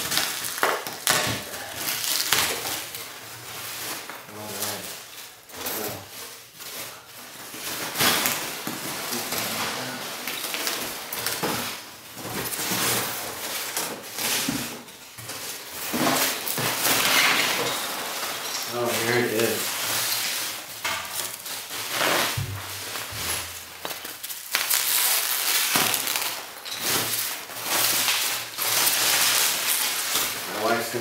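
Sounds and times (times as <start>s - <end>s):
packing material rustling and crackling: 0.0s - 31.0s.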